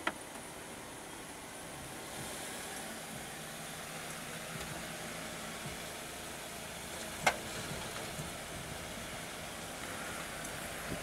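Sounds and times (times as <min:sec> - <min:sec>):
low hiss: 0:00.0 - 0:11.0
vehicle engine idling: 0:00.0 - 0:11.0.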